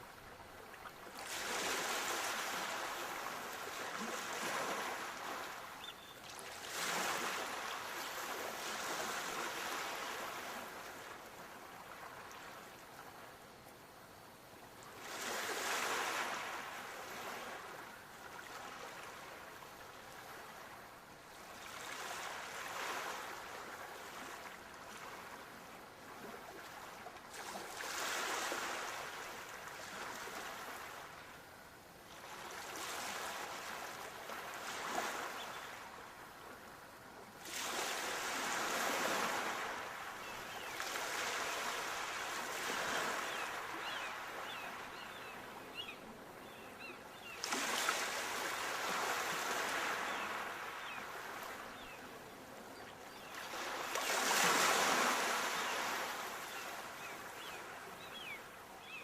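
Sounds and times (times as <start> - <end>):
sea waves breaking on shore: 0.0 - 12.7, 15.0 - 20.8, 21.4 - 31.2, 32.2 - 36.3, 37.4 - 46.6, 47.2 - 59.0.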